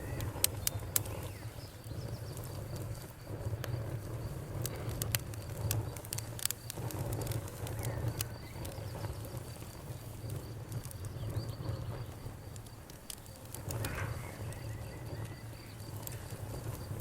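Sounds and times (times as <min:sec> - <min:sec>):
bonfire popping and crackling: 0:00.0 - 0:17.0
crickets chirping: 0:00.0 - 0:17.0.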